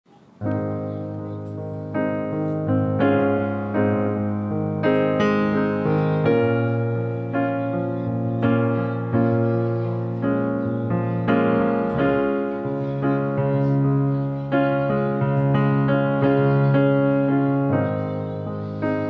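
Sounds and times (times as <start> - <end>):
gentle piano piece: 0.1 - 19.0.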